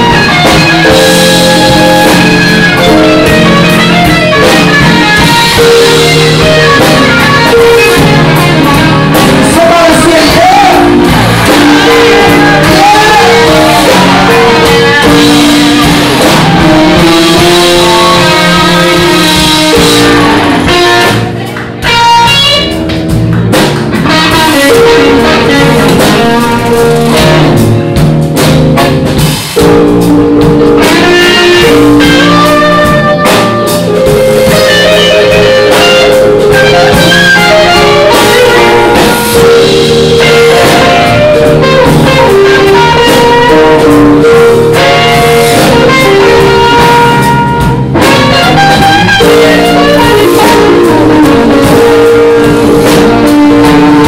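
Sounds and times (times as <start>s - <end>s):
distorted live blues band: 0.0s - 54.0s.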